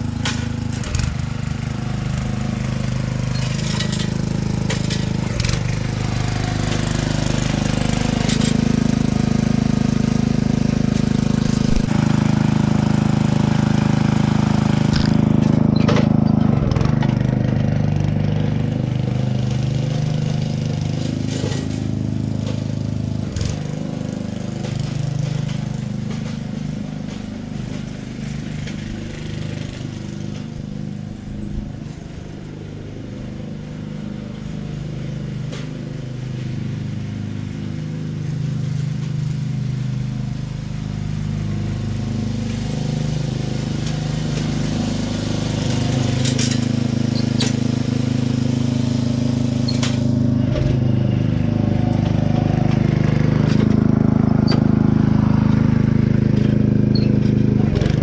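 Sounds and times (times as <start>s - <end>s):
small gas engine running: 0.0s - 58.0s.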